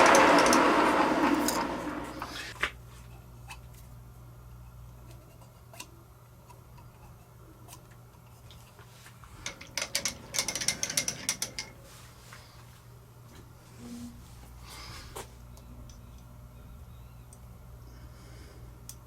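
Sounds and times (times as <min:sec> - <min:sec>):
faint low hum: 0:00.9 - 0:19.0.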